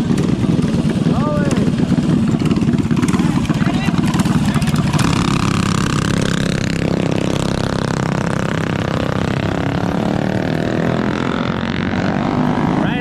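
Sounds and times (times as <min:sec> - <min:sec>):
mini bike engine revving: 0:00.0 - 0:13.0.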